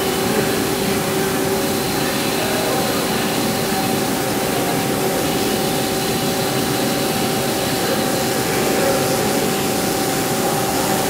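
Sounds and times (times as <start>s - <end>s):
lathe humming and whining: 0.0s - 11.0s.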